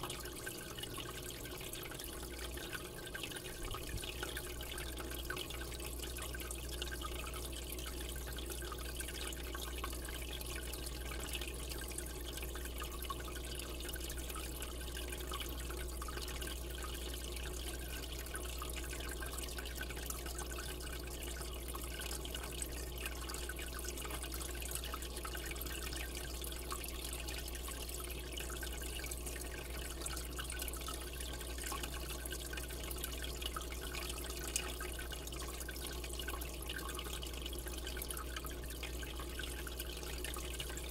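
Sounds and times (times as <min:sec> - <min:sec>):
aquarium water trickling: 0:00.0 - 0:40.9
low steady hum: 0:00.0 - 0:40.9.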